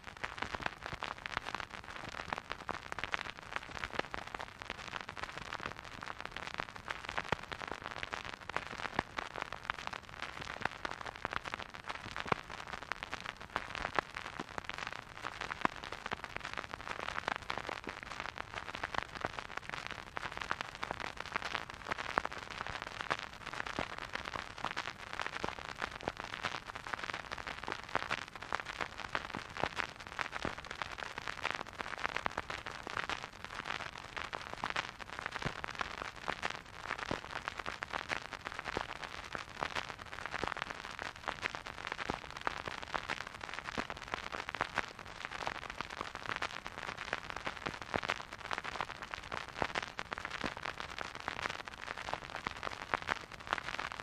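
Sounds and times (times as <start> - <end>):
vinyl record crackle and hiss: 0.0 - 54.0.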